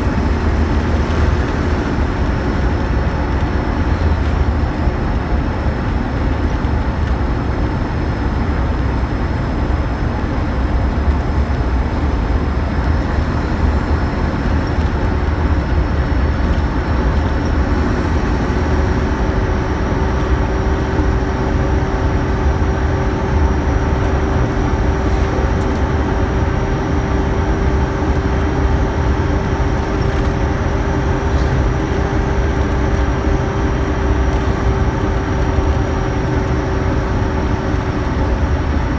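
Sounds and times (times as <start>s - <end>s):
coach diesel engine rumbling: 0.0s - 38.9s
road and running noise: 0.0s - 38.9s.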